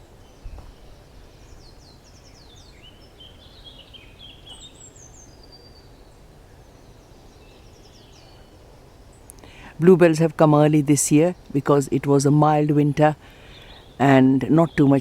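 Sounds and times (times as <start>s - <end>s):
low steady background hum: 0.0s - 15.0s
small birds singing: 0.0s - 15.0s.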